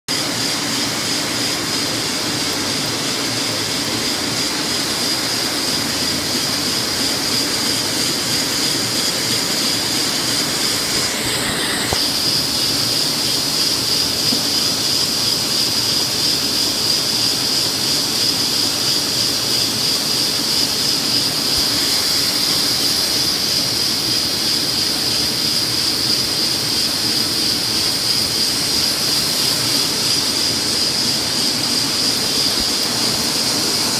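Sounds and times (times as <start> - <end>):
high machine whine: 0.1 - 33.9
printing press mechanical hum: 0.1 - 33.9.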